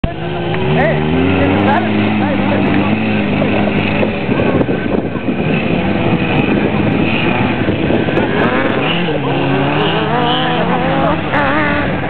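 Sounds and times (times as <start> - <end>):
atv engines running: 0.0 - 12.0.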